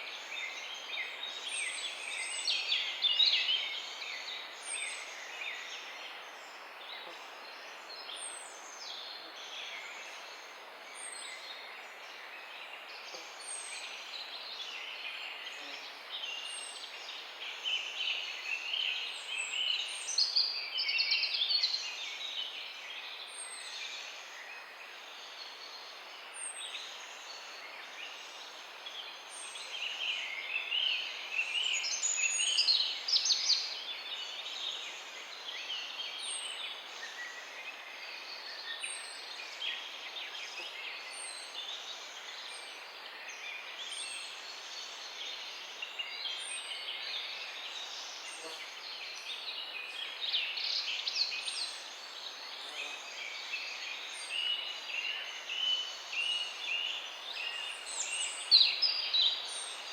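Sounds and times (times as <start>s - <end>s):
background hiss: 0.0s - 59.9s.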